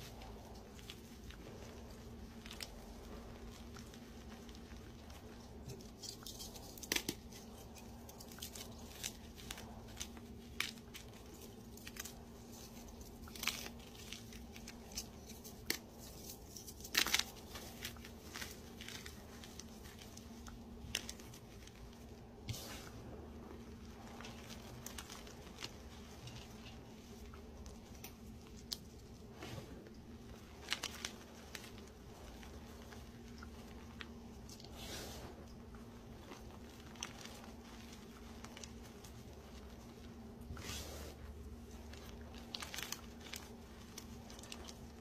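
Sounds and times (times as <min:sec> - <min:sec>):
soft blocks crunching into powder: 0:00.0 - 0:45.0.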